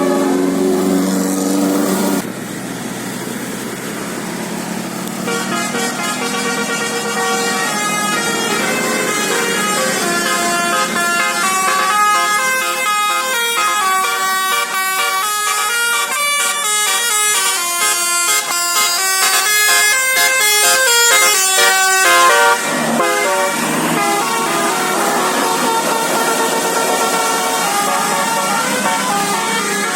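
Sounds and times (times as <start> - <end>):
bus musical air horn: 0.0 - 2.2, 5.1 - 29.9.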